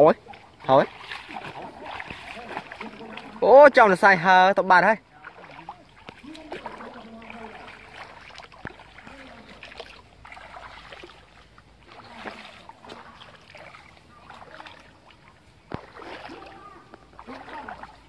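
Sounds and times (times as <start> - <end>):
footsteps splashing through water: 0.0 - 18.0.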